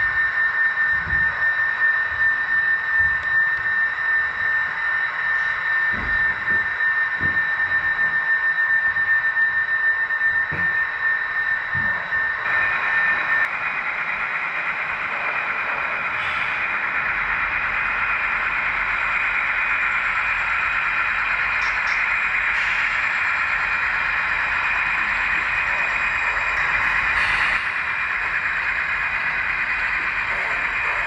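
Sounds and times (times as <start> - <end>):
steady high whine: 0.0 - 31.0.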